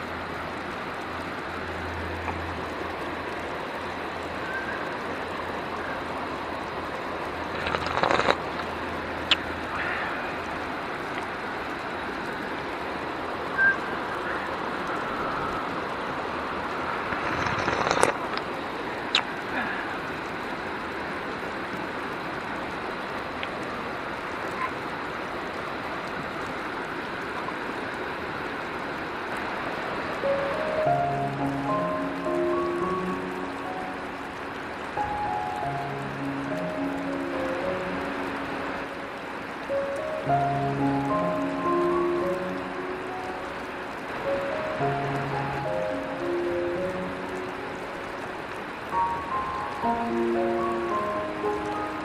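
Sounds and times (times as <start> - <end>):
river flowing: 0.0 - 52.0.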